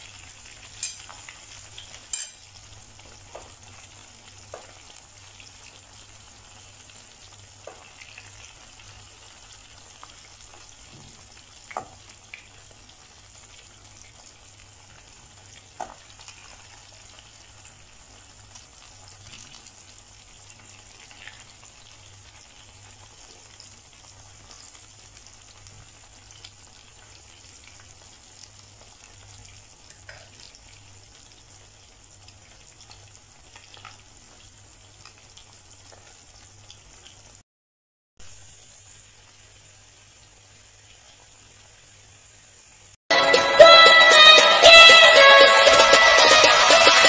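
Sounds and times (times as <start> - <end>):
chicken frying in hot oil: 0.0 - 37.4, 38.2 - 43.0.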